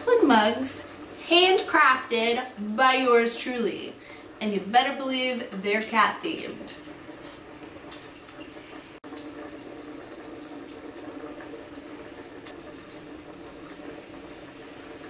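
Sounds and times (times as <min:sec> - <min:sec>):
crackling fire hiss: 0:00.0 - 0:15.0.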